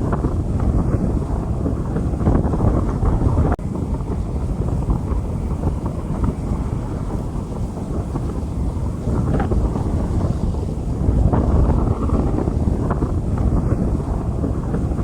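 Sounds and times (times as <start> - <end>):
wind buffeting microphone: 0.0 - 15.0
rain falling on street: 0.1 - 15.0.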